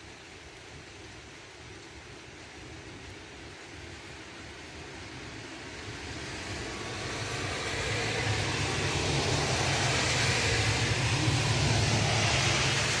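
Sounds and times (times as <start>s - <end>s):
car driving on wet street: 0.0s - 13.0s
heavy rain hissing: 0.0s - 13.0s.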